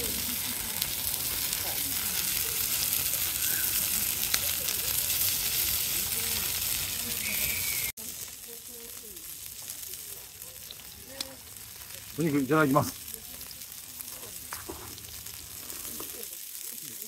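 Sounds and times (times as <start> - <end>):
sharp pops from fire: 0.0 - 12.1, 12.8 - 16.6
meat sizzling on a grill: 0.0 - 17.0.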